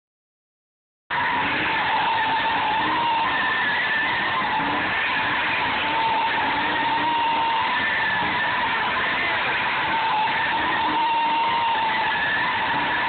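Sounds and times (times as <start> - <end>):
tyres squealing in burnout: 1.1 - 13.0.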